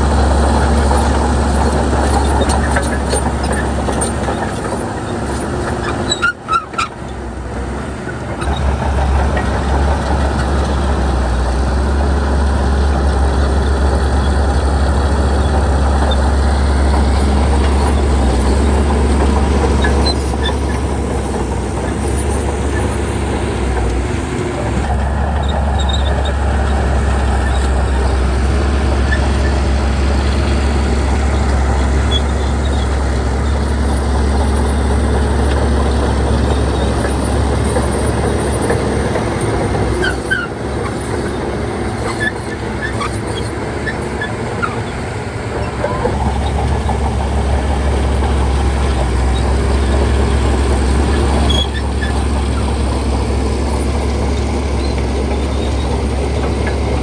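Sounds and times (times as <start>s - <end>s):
bulldozer diesel engine rumbling: 0.0s - 57.0s.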